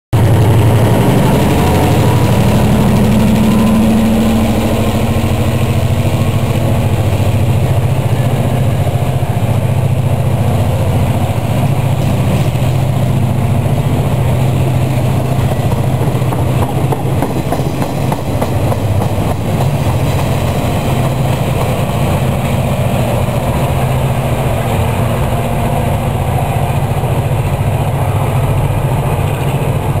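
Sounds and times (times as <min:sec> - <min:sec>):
diesel locomotive engine drone: 0:00.1 - 0:30.0.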